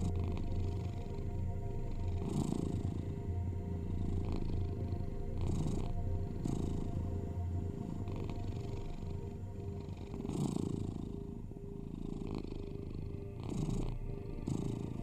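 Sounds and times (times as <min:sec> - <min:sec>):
cat purring: 0:00.0 - 0:15.0
faint binaural tones: 0:00.0 - 0:15.0.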